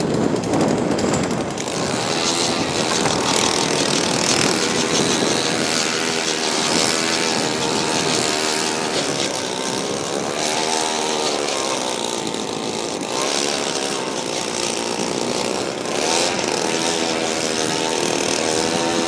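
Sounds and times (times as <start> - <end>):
ice auger engine running: 0.0 - 19.0.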